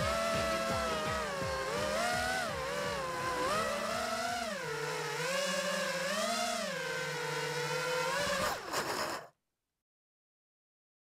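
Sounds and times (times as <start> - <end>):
quadcopter motors whining: 0.0 - 9.3.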